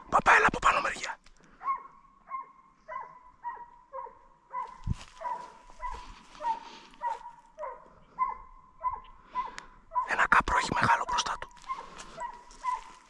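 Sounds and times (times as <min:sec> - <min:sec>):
dog baying barks: 0:01.6 - 0:10.2, 0:11.1 - 0:13.0.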